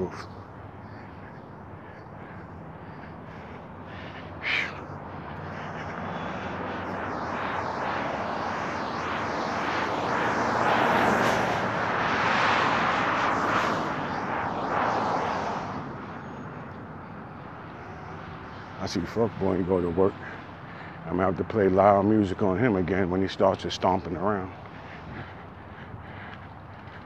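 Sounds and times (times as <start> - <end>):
aircraft passing overhead: 0.0 - 27.0.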